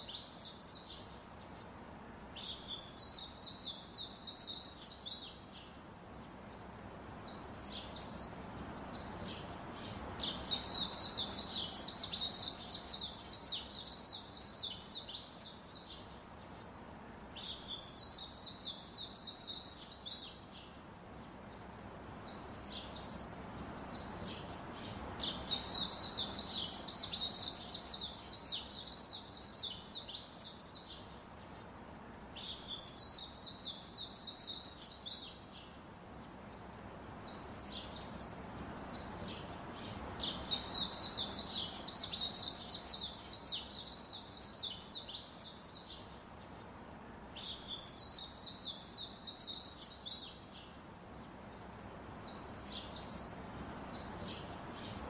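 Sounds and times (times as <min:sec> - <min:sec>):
small birds chirping: 0:00.0 - 0:55.0
steady background hiss: 0:00.0 - 0:55.0.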